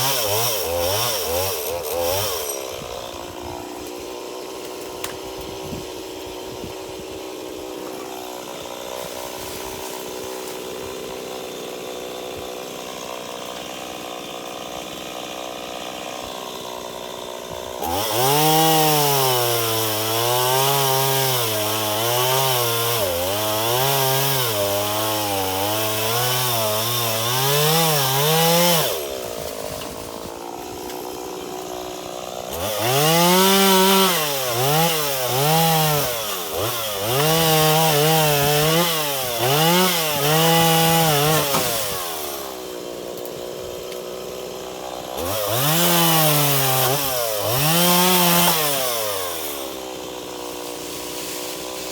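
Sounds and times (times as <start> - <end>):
chainsaw cutting through wood: 0.0 - 51.9.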